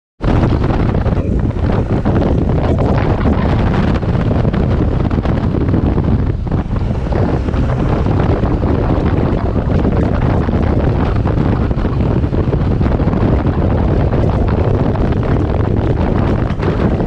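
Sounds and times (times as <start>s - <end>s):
motorcycle engine drone: 0.2s - 17.0s
wind buffeting microphone: 0.2s - 17.0s.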